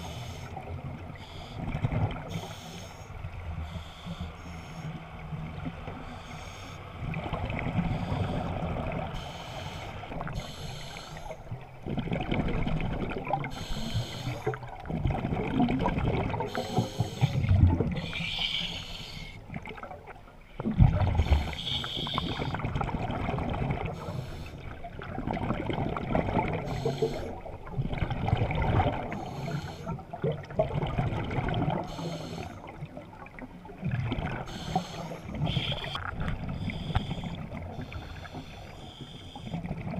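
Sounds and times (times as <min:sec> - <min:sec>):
underwater breathing bubbles: 0:05.9 - 0:19.9, 0:20.6 - 0:39.9.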